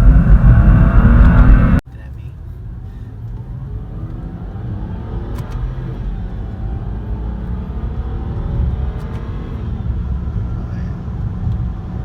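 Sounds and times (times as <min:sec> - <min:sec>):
car engine running: 0:00.0 - 0:12.0
road rumble: 0:00.0 - 0:12.0.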